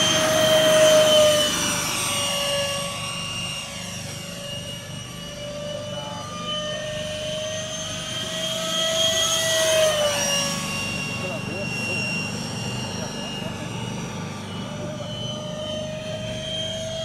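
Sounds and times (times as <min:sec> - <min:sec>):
electric ducted fans whining: 0:00.0 - 0:17.0.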